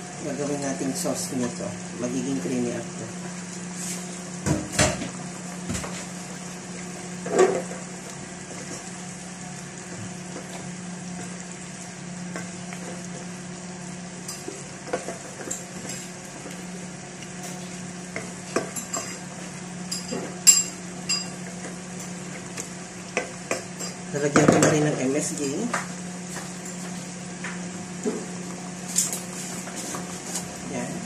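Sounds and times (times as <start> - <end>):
food sizzling in a pot: 0.0 - 31.0.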